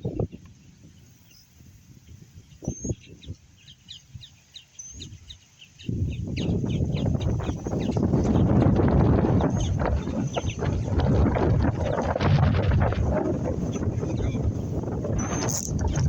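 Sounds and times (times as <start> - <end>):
bird chirping: 0.0 - 12.2, 13.5 - 16.0
wind on microphone: 0.0 - 16.0.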